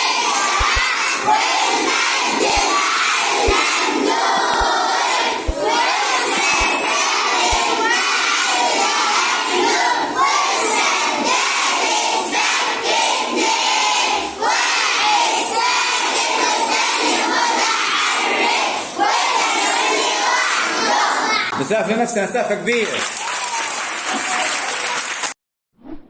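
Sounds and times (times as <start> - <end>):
children chanting: 0.0 - 21.5.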